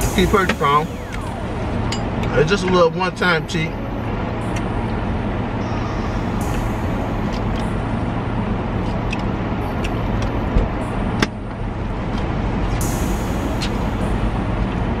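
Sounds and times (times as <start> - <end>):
vehicle idling inside cabin: 0.0 - 15.0.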